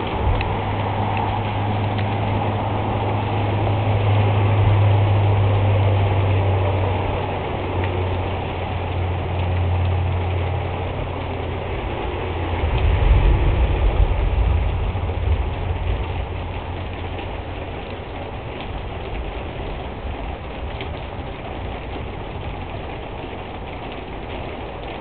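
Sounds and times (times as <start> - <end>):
low thunder rumble: 0.0 - 25.0
rain falling: 0.0 - 25.0.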